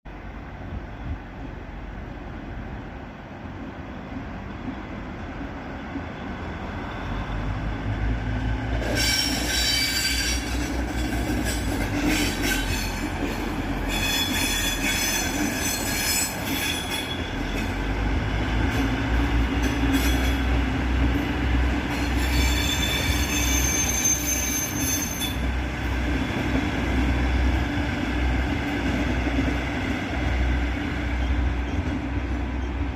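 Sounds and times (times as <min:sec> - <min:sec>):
train wheels squealing on rails: 0:05.8 - 0:32.9.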